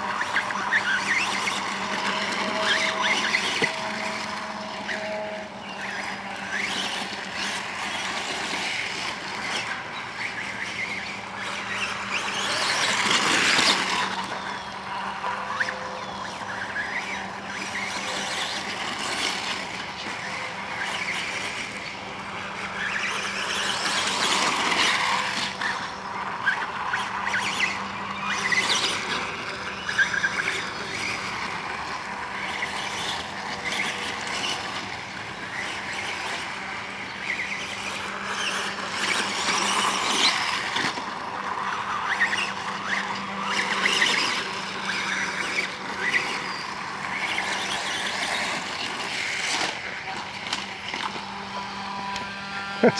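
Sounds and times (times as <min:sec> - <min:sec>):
toy dirt bike motor: 0:00.0 - 0:52.9.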